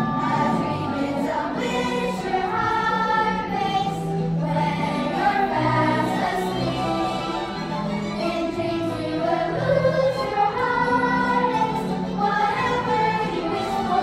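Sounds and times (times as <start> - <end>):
children's choir singing: 0.0 - 14.0
instrumental accompaniment: 0.0 - 14.0.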